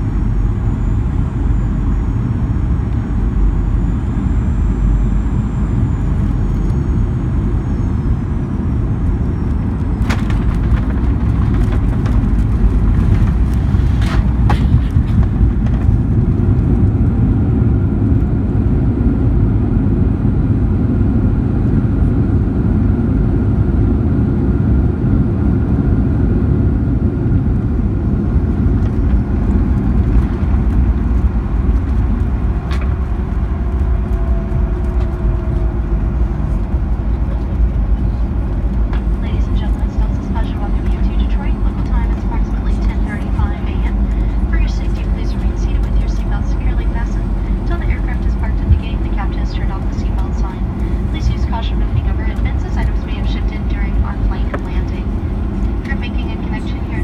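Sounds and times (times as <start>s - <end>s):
airplane cabin rumble: 0.0s - 57.0s
faint engine whine: 0.0s - 57.0s.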